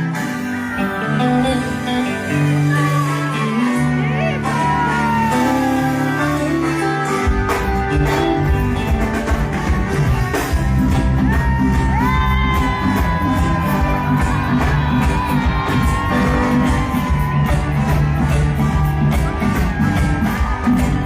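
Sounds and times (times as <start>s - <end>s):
band playing live music: 0.0s - 21.0s.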